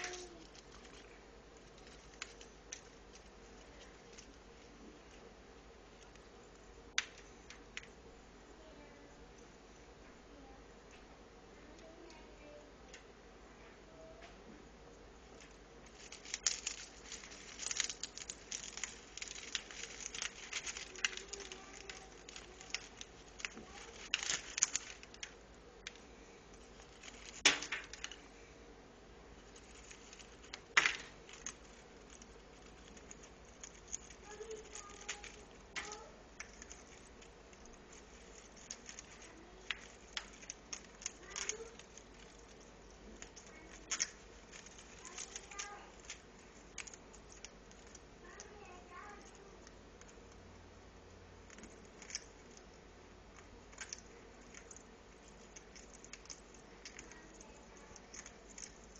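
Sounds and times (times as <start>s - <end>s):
parrot chewing and crackling toy: 0.0s - 8.1s, 14.9s - 58.9s.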